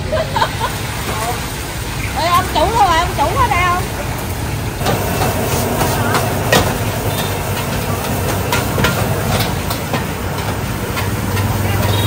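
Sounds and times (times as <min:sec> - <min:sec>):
motorbike traffic hum: 0:00.0 - 0:12.0.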